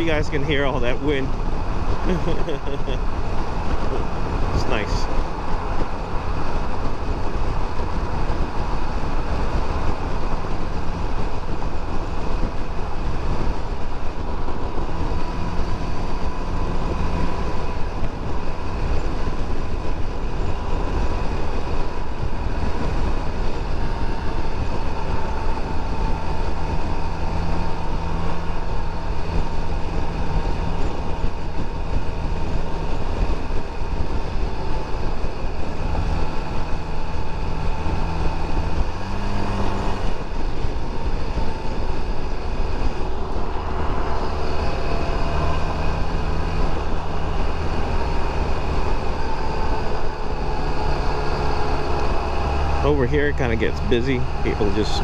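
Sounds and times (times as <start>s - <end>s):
wind rushing on microphone: 0.0s - 55.0s.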